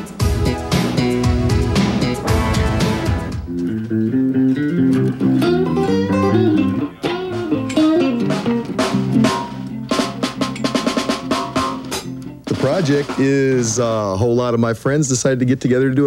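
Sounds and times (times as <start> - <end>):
electric guitar melodic run: 0.0 - 13.8.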